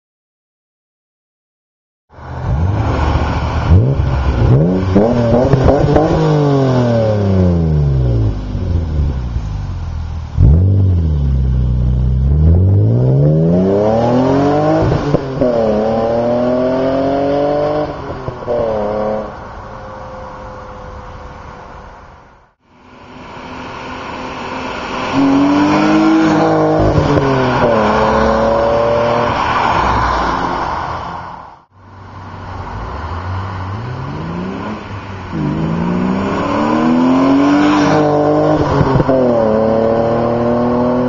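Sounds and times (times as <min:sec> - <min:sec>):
car engine revving and accelerating: 0:02.2 - 0:09.7, 0:10.3 - 0:19.4, 0:23.0 - 0:31.2, 0:32.3 - 0:41.0.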